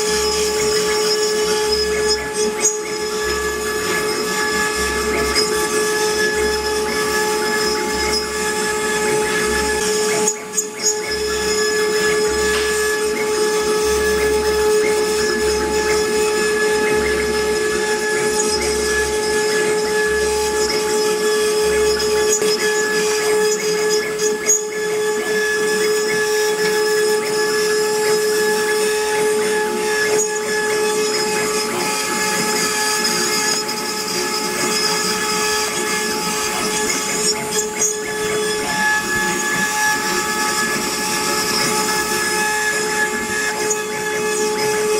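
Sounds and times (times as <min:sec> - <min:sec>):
router spindle whine: 0:00.0 - 0:44.9.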